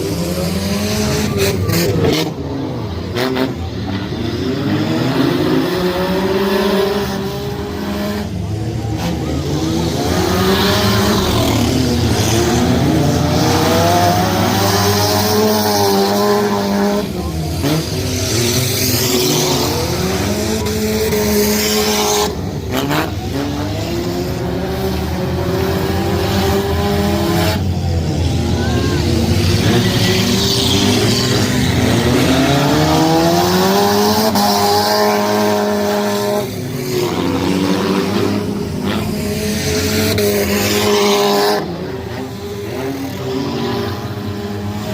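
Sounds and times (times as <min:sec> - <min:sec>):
race car engines revving: 0:00.0 - 0:44.9.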